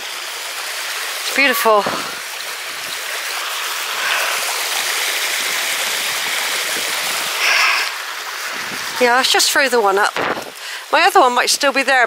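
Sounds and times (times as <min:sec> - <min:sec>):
waterfall splashing over rocks: 0:00.0 - 0:12.0.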